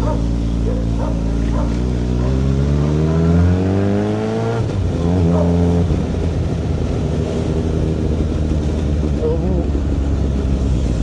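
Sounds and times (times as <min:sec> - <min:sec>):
motorcycle engine accelerating: 0:00.0 - 0:11.0
wind and road noise: 0:00.0 - 0:11.0.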